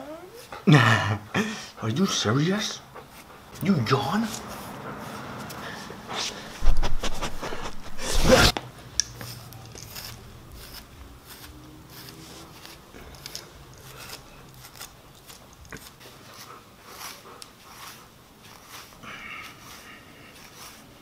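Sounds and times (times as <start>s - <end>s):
brush raking through dog fur: 2.2s - 8.6s, 9.2s - 21.0s.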